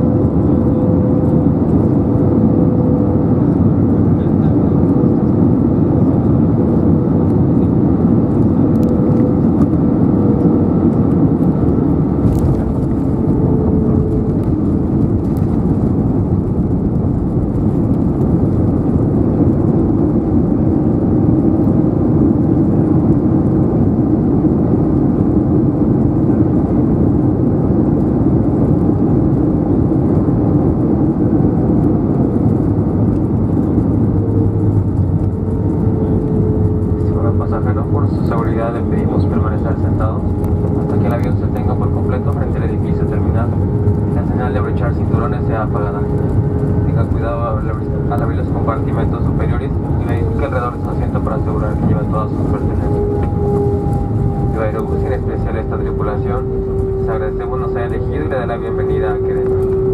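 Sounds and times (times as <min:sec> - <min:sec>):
airplane cabin roar: 0:00.0 - 0:59.9.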